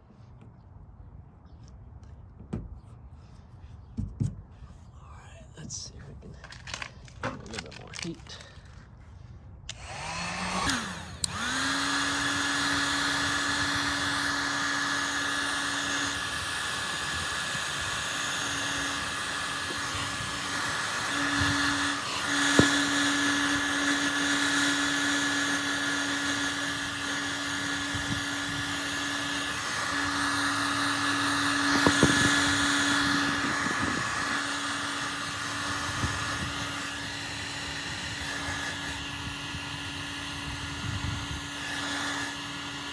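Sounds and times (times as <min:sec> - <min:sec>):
heat gun fan whine: 0:05.6 - 0:42.9.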